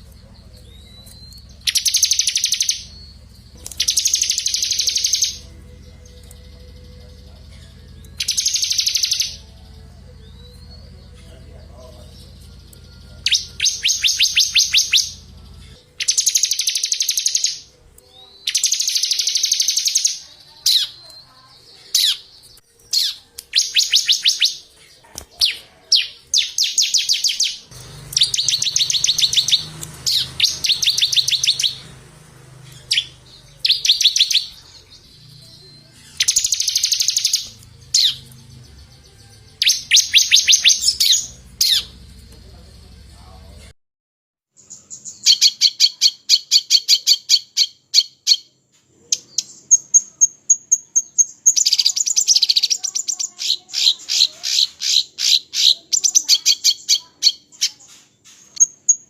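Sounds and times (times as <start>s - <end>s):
songbird trills: 0.0s - 43.1s, 44.6s - 59.0s.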